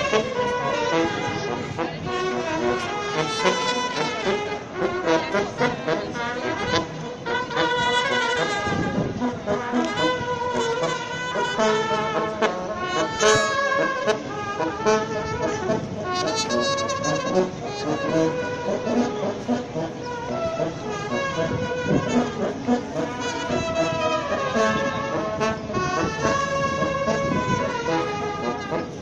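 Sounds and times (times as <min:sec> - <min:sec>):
jazz band with brass horns: 0:00.0 - 0:29.0.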